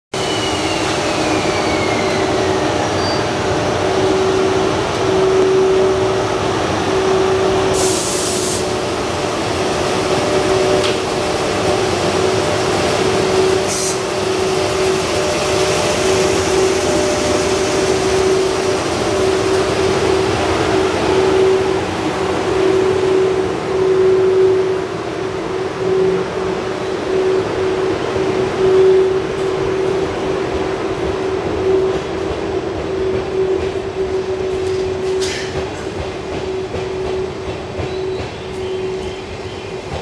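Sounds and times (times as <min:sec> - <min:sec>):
electric train rumbling past: 0:00.1 - 0:40.0.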